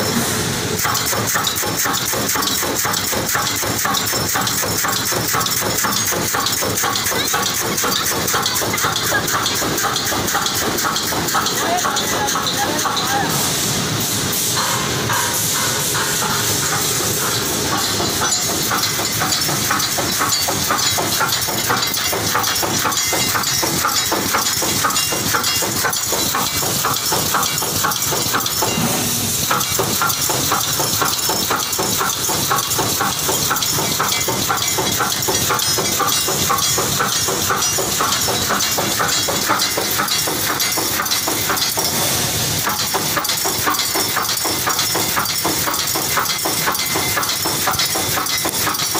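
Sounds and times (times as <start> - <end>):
steady pneumatic hiss: 0.0 - 48.9
welding machine clattering: 0.0 - 48.9.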